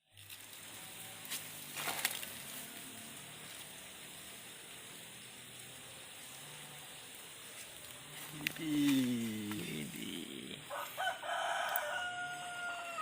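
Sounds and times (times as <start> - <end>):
stream water flowing: 0.1 - 11.2.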